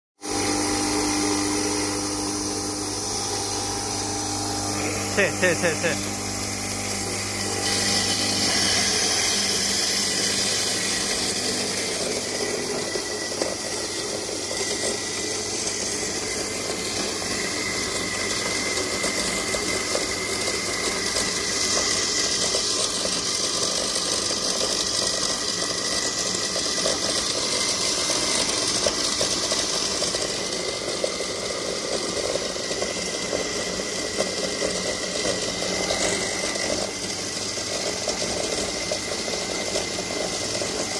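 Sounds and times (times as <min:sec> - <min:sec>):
rice mill motor humming: 0:00.2 - 0:40.9.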